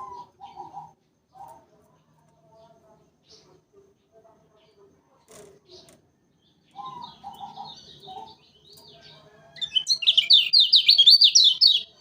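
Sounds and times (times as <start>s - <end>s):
bird twittering and singing: 0.0s - 4.8s, 5.6s - 12.0s.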